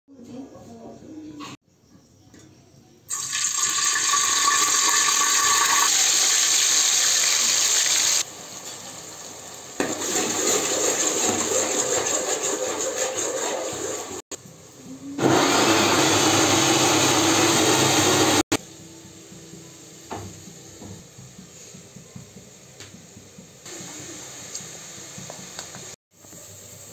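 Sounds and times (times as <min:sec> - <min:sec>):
hot oil sizzling: 0:03.1 - 0:14.7, 0:15.3 - 0:26.9.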